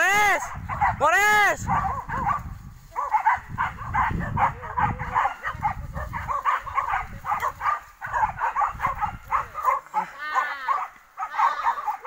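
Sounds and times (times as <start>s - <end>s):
dogs barking and yelping: 0.5s - 12.0s.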